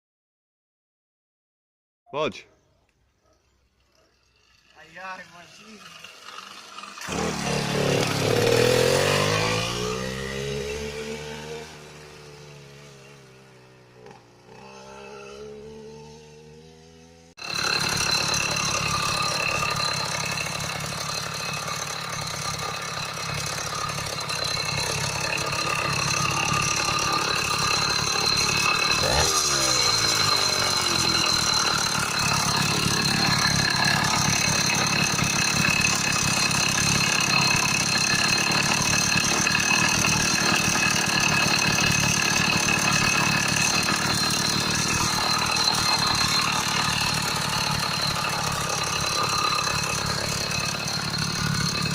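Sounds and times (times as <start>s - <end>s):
two-stroke engine running: 3.8s - 51.9s.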